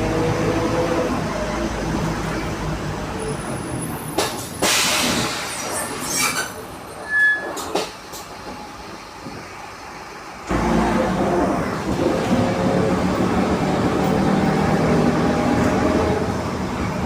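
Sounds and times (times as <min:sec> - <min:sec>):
bus diesel engine: 0:00.0 - 0:17.0.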